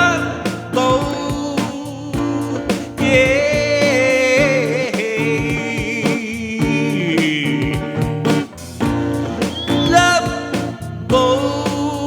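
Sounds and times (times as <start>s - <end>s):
man singing: 0.0s - 8.5s, 9.5s - 12.0s
band backing track with drums: 0.0s - 12.0s.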